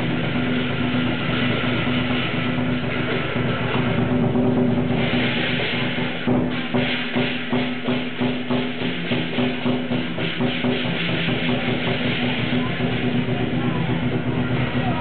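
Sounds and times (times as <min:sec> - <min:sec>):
cymbal clashes: 0:00.0 - 0:15.0
drum beats: 0:00.0 - 0:15.0.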